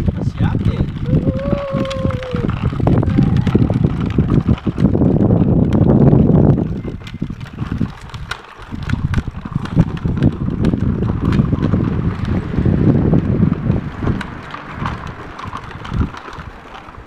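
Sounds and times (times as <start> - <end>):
plastic wheels rolling over asphalt: 0.0 - 17.0
wind buffeting microphone: 0.0 - 17.0.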